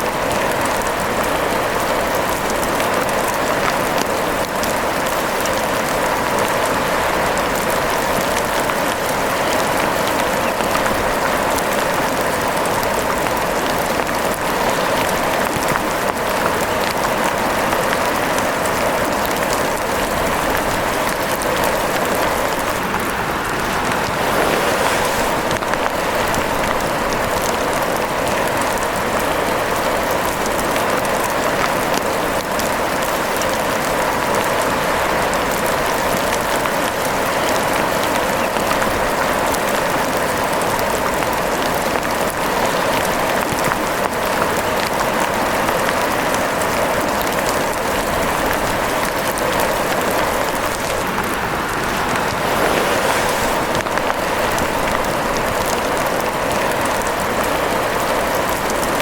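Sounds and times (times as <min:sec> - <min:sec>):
dense rain hissing: 0:00.0 - 0:45.3, 0:48.0 - 0:59.0.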